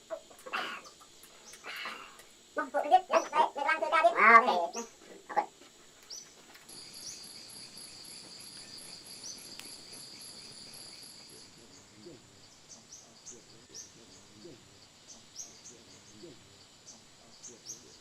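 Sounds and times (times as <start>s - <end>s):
insect trilling: 0.0s - 18.0s
low calls: 0.0s - 18.0s.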